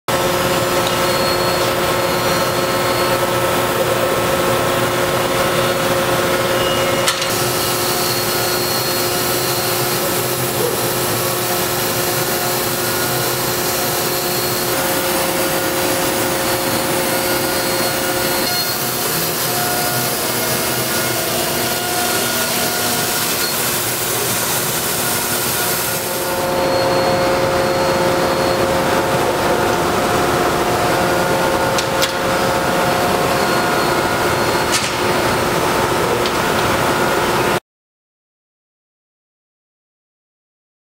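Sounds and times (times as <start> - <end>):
steady machine hum: 0.1 - 37.6
router spindle whine: 0.2 - 36.3.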